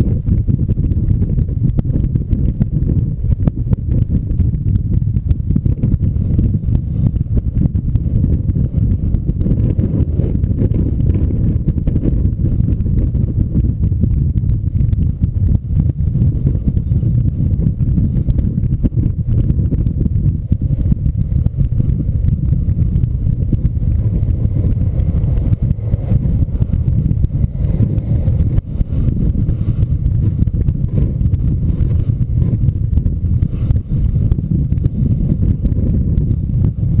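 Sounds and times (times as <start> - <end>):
gusty wind buffeting microphone: 0.0 - 37.0.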